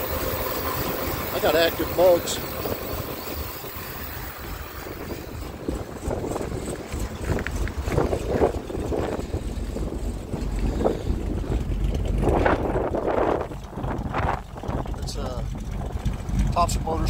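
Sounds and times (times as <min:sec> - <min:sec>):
car engine idling with uneven lope: 0:00.0 - 0:17.0.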